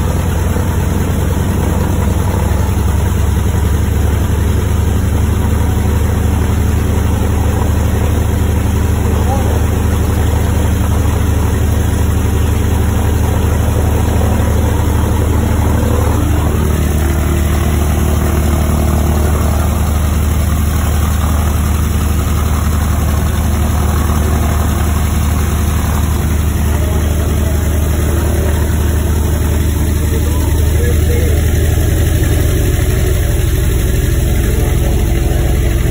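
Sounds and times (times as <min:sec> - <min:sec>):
radial aircraft engine idling: 0:00.0 - 0:35.9.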